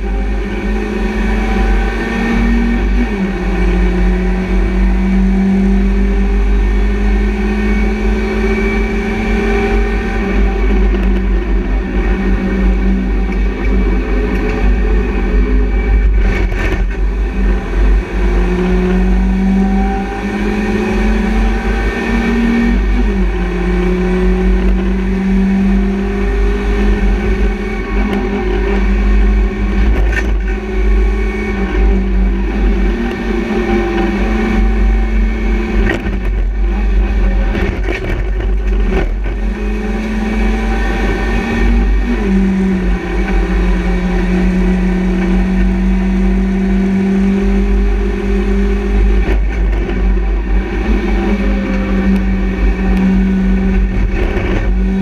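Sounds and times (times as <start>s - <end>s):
race car engine revving: 0.0s - 55.0s
road and wind rumble: 0.0s - 55.0s.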